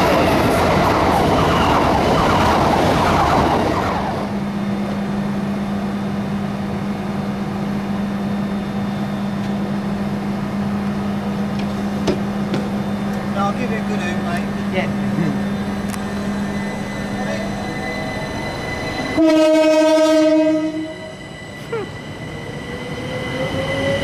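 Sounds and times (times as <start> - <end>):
electric train rushing past: 0.0 - 24.0
standing electric train humming: 0.0 - 24.0.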